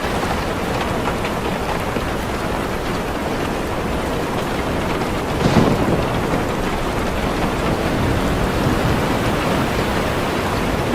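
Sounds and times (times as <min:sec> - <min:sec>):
rain falling on a car: 0:00.0 - 0:10.9
thunder rumbling: 0:00.0 - 0:10.9.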